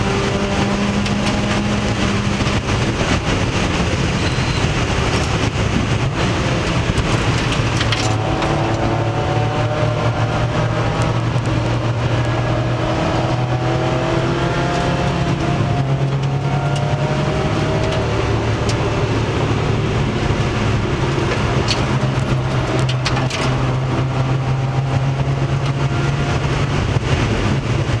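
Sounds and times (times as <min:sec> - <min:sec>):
race car engine running hard: 0:00.0 - 0:28.0.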